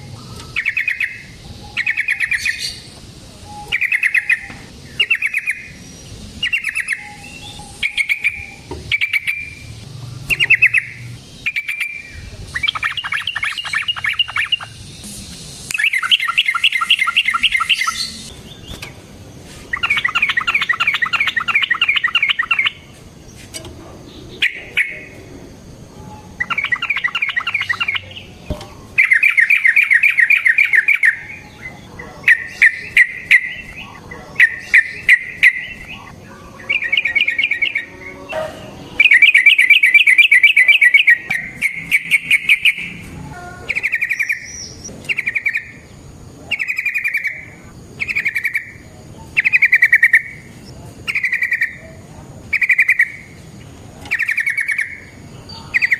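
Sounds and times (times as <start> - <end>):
bulbul chattering song: 0.0 - 55.9.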